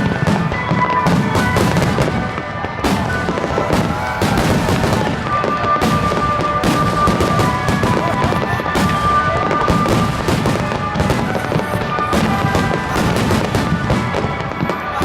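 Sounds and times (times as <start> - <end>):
fireworks crackling and popping: 0.0 - 15.0
music with long held notes: 0.0 - 15.0.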